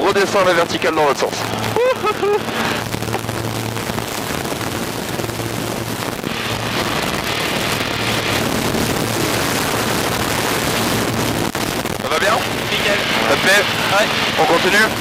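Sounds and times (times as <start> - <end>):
plane engine and propeller humming: 0.0 - 15.0
wind noise rushing: 0.0 - 15.0.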